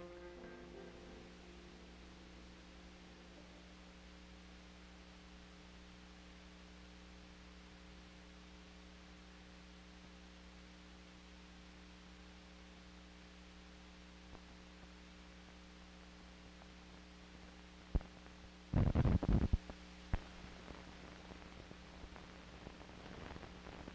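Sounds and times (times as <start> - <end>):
steady electrical hum: 0.0 - 23.9.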